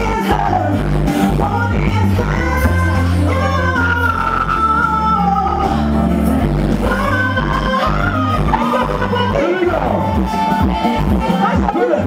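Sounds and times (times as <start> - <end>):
woman singing into microphone: 0.0 - 9.8, 10.4 - 12.0
live rock band: 0.0 - 12.0.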